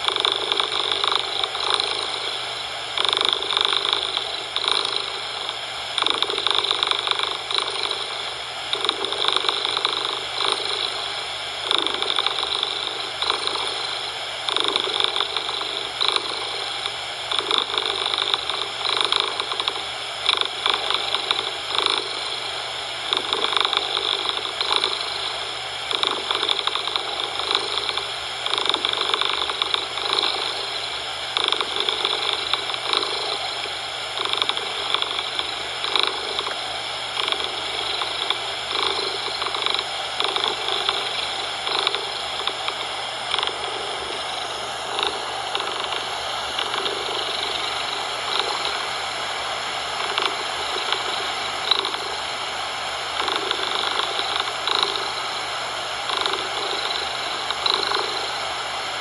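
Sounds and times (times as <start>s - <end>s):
cat purring: 0.0s - 52.3s, 53.2s - 55.3s, 56.1s - 58.4s
steady hiss: 0.0s - 59.0s.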